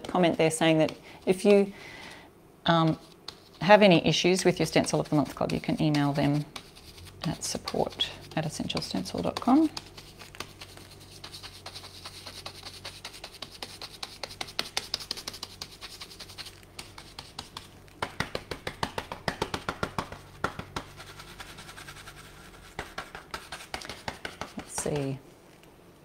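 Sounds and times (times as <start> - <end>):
stencil brush tapping: 2.8 - 3.8, 4.4 - 25.2.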